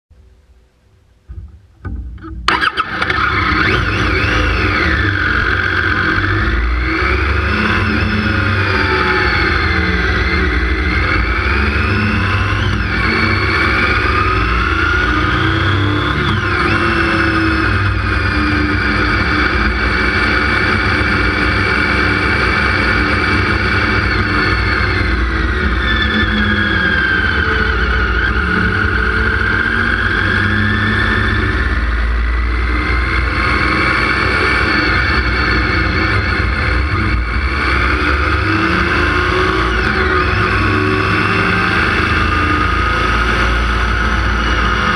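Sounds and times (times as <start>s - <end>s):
motorcycle engine revving: 1.3s - 44.9s.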